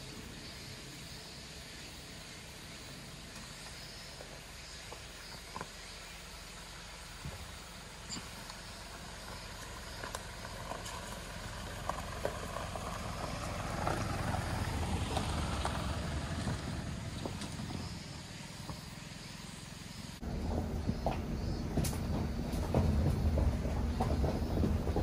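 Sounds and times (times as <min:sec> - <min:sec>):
diesel engine and tyres rumbling: 0:00.0 - 0:25.0
gravel knocking under wheels: 0:03.1 - 0:19.6, 0:20.2 - 0:25.0.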